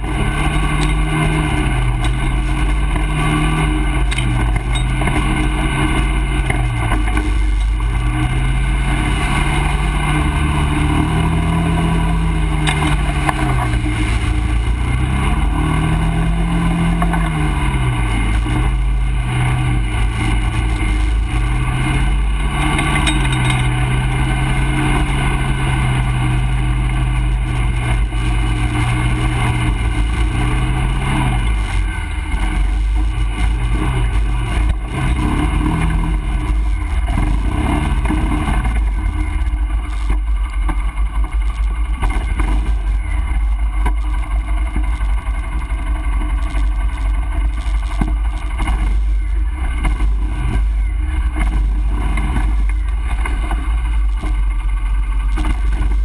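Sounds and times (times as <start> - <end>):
low rumble: 0.0 - 56.0
quad bike engine revving: 0.0 - 56.0.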